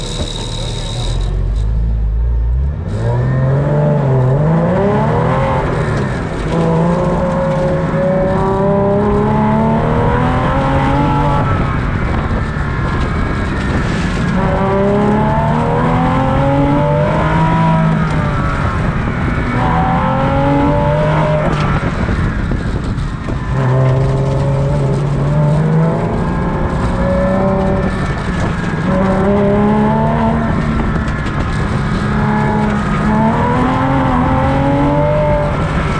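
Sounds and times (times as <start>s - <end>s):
sports car engine accelerating: 0.0s - 35.9s.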